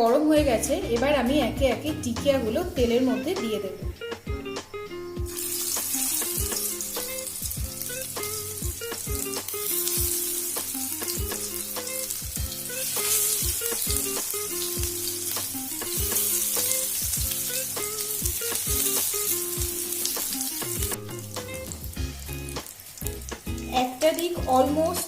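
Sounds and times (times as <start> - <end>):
background music with beat: 0.4 - 25.0
food sizzling in oil: 1.1 - 25.0.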